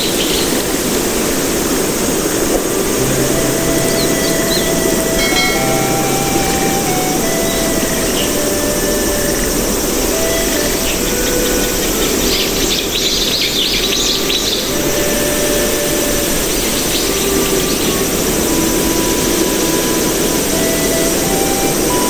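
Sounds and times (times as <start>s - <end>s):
steady rushing noise: 0.0s - 22.0s
short held notes: 2.3s - 13.3s, 14.2s - 22.0s
high chirping trills: 2.4s - 22.0s.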